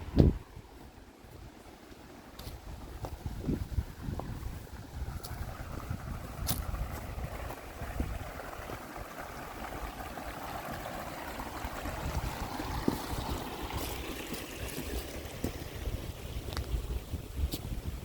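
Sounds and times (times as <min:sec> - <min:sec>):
wind rumble on microphone: 0:00.0 - 0:01.6, 0:02.4 - 0:18.0
stream of water flowing: 0:00.0 - 0:18.0.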